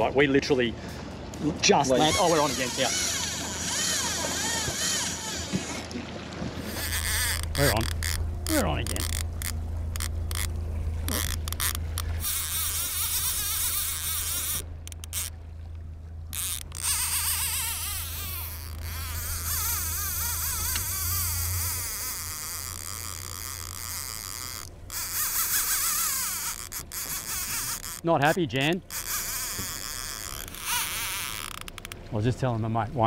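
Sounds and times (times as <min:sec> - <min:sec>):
steady low hum: 0:00.0 - 0:33.0
fishing reel drag buzzing: 0:01.8 - 0:05.8, 0:06.6 - 0:15.4, 0:16.2 - 0:32.1.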